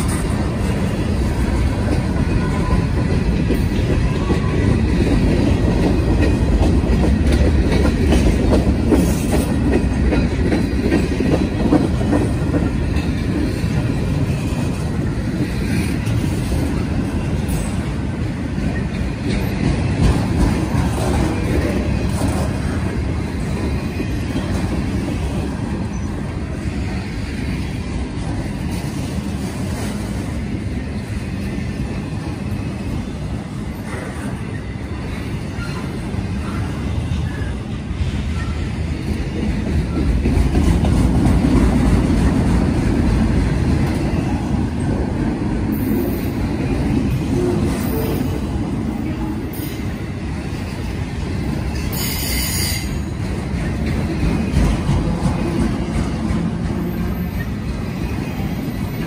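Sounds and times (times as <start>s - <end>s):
freight cars rumbling on rail: 0.0s - 59.0s.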